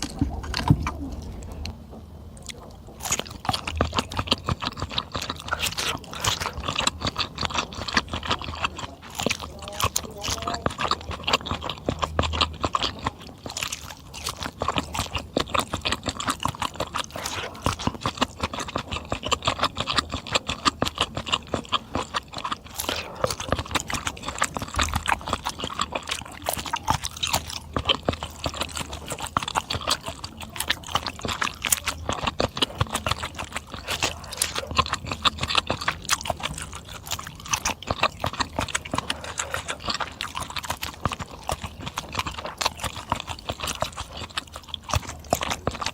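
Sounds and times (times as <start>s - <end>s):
chewing and lip smacking: 0.0s - 45.9s.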